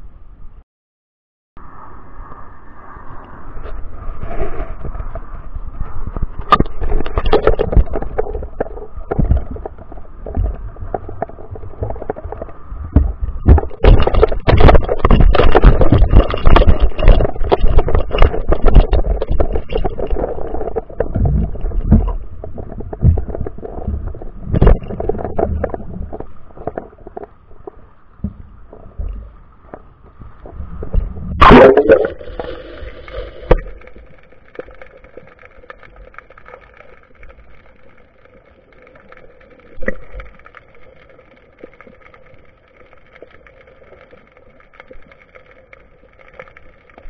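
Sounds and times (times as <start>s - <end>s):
underwater rumble of moving water: 1.6s - 47.0s
underwater clicks and knocks: 6.1s - 47.0s.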